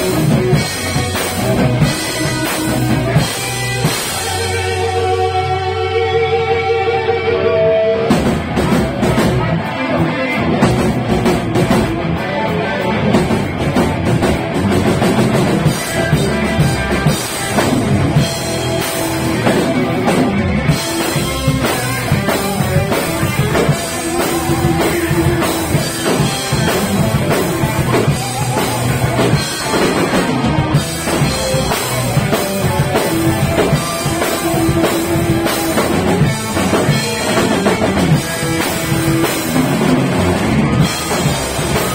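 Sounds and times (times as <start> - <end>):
pounding drum kit: 0.0 - 6.9, 7.9 - 41.9
distorted electric guitars: 0.0 - 41.9
heavy metal band playing live: 0.0 - 41.9.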